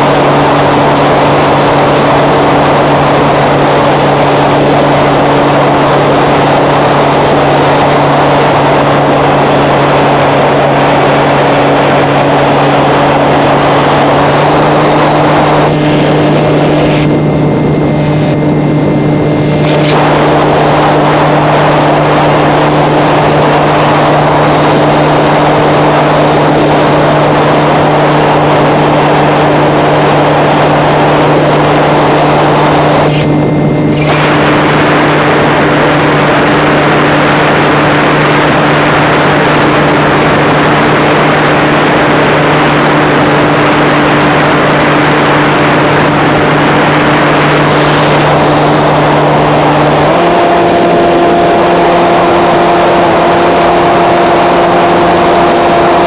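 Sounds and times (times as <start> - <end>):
model plane motor and propeller: 0.0 - 56.0
wind rushing over microphone: 0.0 - 56.0.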